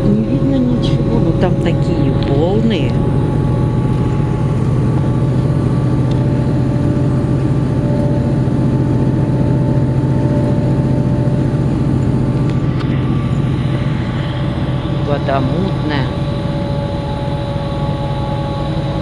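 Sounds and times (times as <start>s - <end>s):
bus engine and road noise: 0.0s - 19.0s
faint whining tones: 0.0s - 19.0s.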